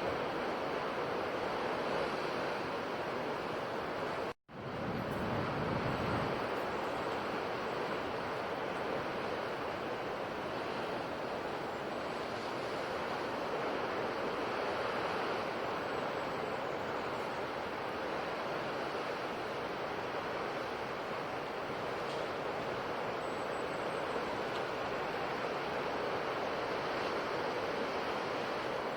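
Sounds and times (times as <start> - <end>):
surf breaking on a shore: 0.0 - 28.9.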